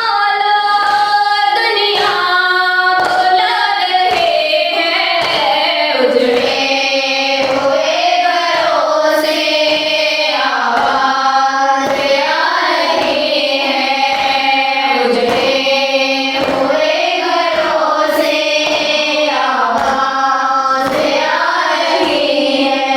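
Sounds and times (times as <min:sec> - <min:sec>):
voices chanting a lament: 0:00.0 - 0:22.9.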